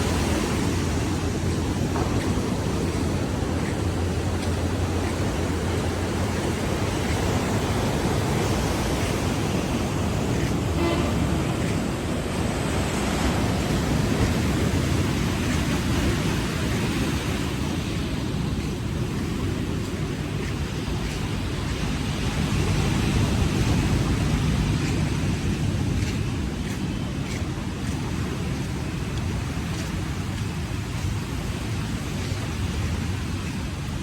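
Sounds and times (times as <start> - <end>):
sea waves washing onto beach: 0.0 - 34.0.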